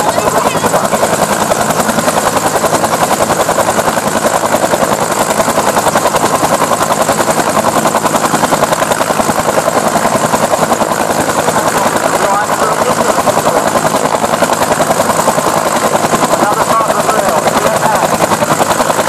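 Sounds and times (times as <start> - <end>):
helicopter rotor beating: 0.0 - 19.0.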